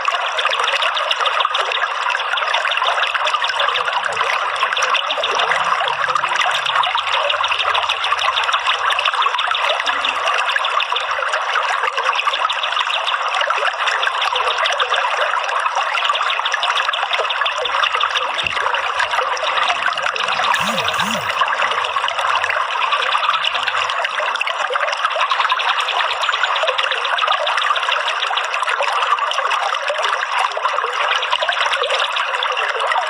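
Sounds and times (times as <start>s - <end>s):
water trickling and flowing: 0.0s - 20.6s, 21.6s - 33.0s.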